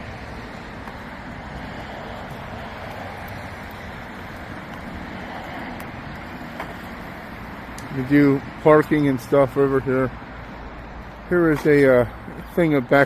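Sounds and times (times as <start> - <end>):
road traffic hiss: 0.0 - 13.0.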